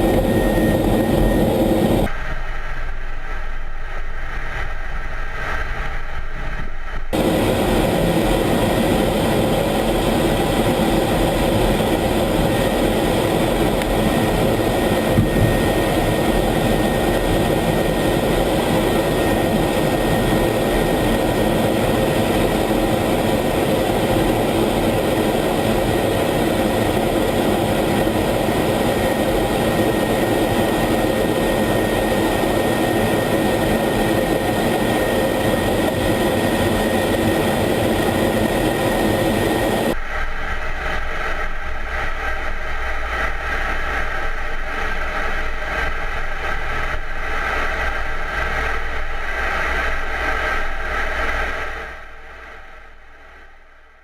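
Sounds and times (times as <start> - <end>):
jet engine rush and whine: 0.0 - 54.0.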